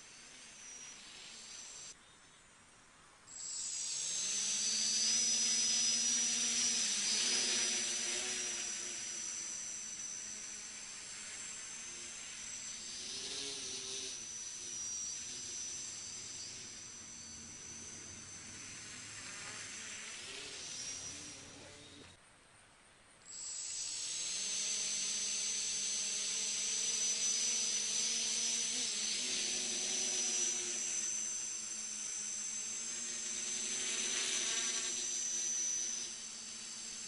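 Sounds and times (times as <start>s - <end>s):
quadcopter propellers buzzing: 0.0s - 2.0s, 3.3s - 22.2s, 23.3s - 37.0s.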